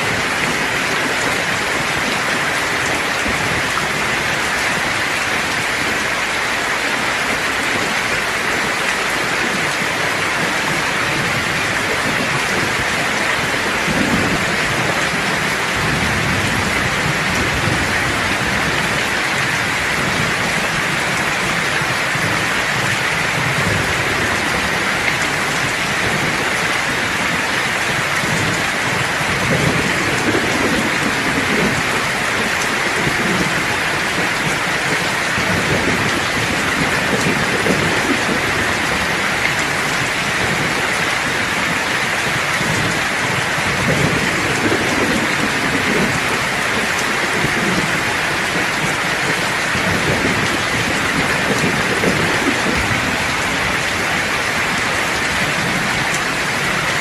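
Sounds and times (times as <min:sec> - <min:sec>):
heavy rain hissing: 0:00.0 - 0:57.0
rolling thunder: 0:00.0 - 0:57.0.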